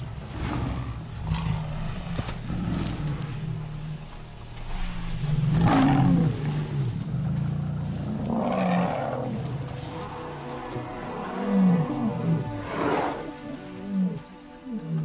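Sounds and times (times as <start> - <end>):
lionesses growling: 0.0 - 15.0.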